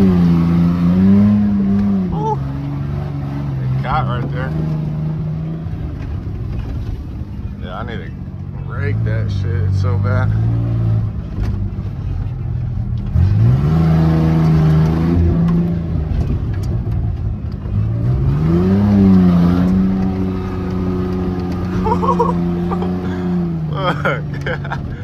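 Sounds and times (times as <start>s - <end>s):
truck engine revving roughly: 0.0s - 25.0s.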